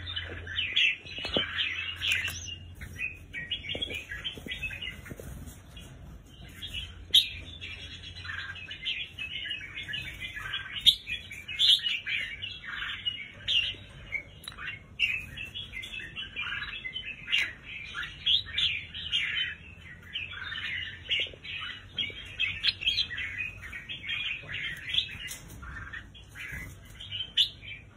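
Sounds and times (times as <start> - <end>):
birds chirping and calling: 0.0 - 27.9.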